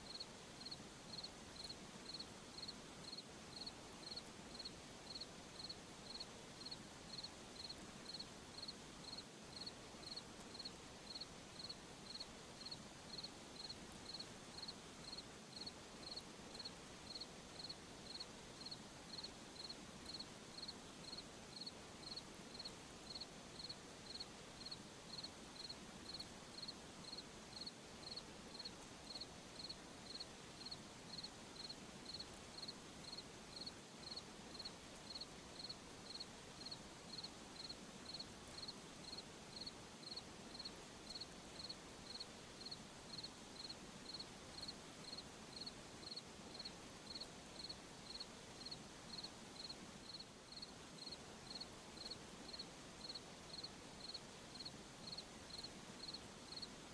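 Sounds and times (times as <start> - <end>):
faint hiss of night ambience: 0.0 - 56.9
cricket chirping: 0.1 - 56.7.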